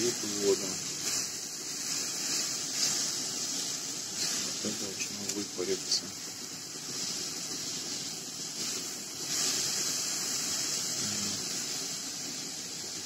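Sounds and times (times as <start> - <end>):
mushrooms sizzling in a frying pan: 0.0 - 13.0.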